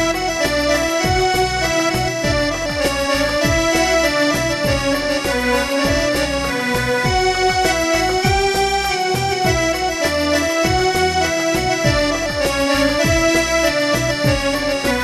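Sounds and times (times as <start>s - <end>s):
reedy keyboard hymn melody: 0.0s - 15.0s
steady low drum beat: 0.0s - 15.0s.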